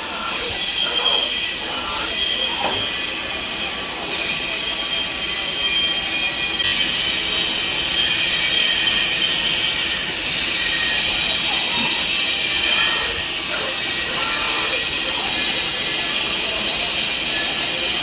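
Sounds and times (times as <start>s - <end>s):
high thin whining tones: 0.0s - 18.0s
lathe machining hiss: 0.0s - 18.0s.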